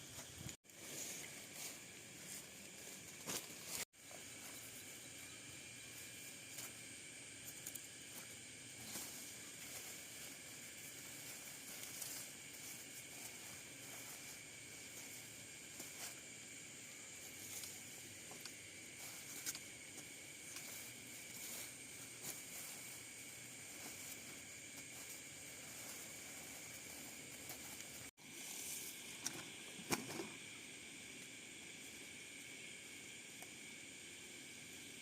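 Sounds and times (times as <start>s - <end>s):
outdoor hiss: 0.0s - 35.0s
thin high hum: 0.0s - 35.0s.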